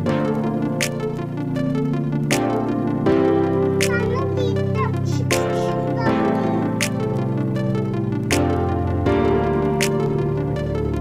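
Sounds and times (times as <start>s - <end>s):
sustained synthesizer chords: 0.0s - 11.0s.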